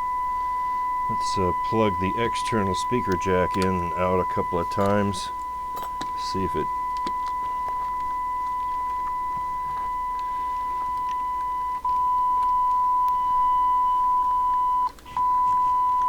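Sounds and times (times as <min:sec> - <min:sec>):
radio test tone beeping: 0:00.0 - 0:16.0.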